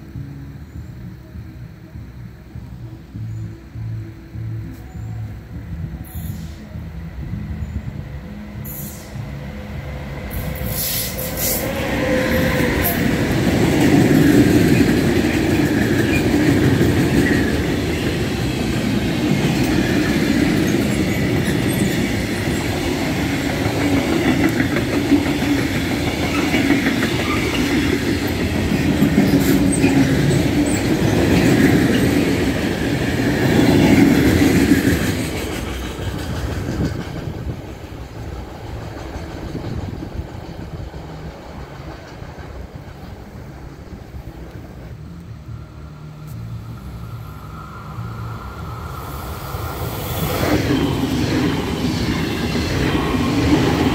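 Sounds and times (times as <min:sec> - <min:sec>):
freight train passing: 0:00.0 - 0:53.9
wheels rattling on rails: 0:08.6 - 0:53.9.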